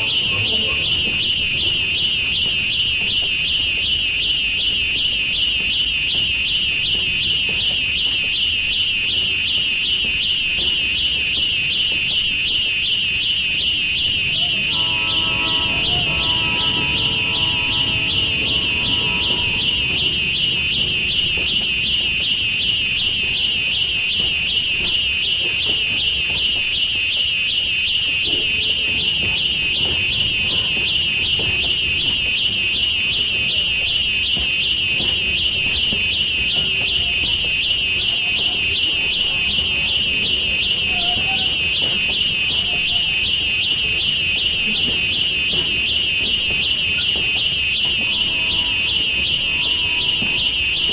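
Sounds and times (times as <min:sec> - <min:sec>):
warbling high-pitched alarm tone: 0:00.0 - 0:50.9.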